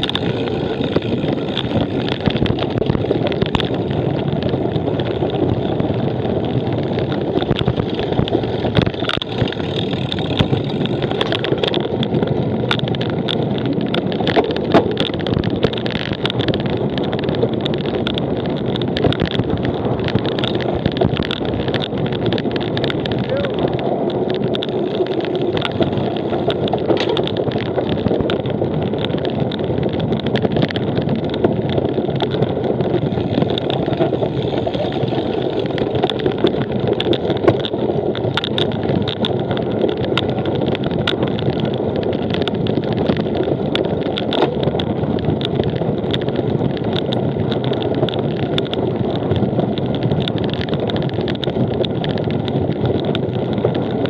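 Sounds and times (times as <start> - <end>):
bike clicks and rattles: 0.0 - 54.0
wind rushing over microphone: 0.0 - 54.0.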